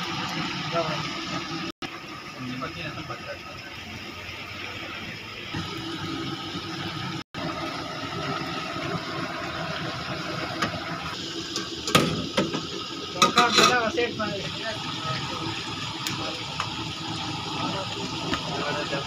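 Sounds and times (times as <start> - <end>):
chicken deep-frying in oil: 0.0 - 19.0.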